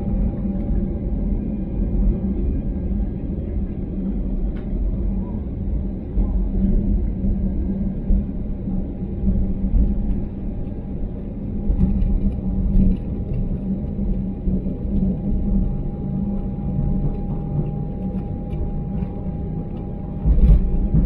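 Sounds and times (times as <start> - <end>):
aircraft cabin low rumble: 0.0 - 21.0
jet engine high whine: 0.0 - 21.0.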